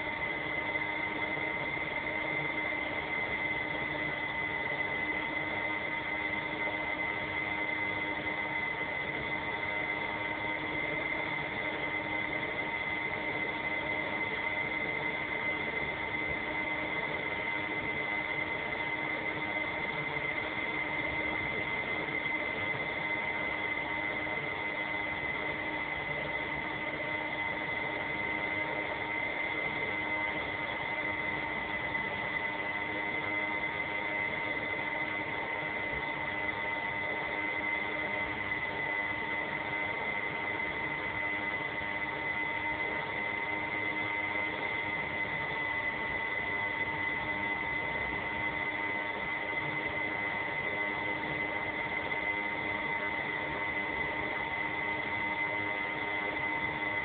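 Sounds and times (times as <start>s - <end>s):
electrical hum and hiss: 0.0s - 57.0s.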